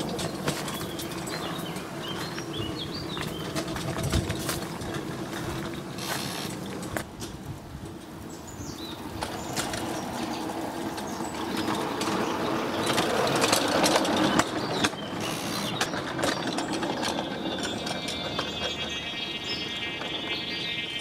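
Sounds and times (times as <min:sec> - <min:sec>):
wheels clattering on rails: 0:00.0 - 0:21.0.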